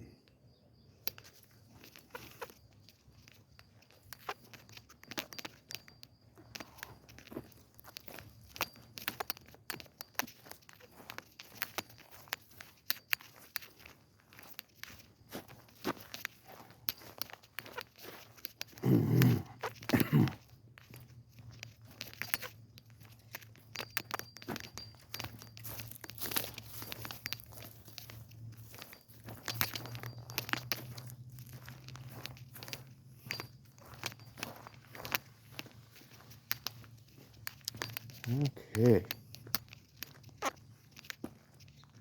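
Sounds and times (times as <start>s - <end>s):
footsteps crunching on path: 1.1s - 42.0s.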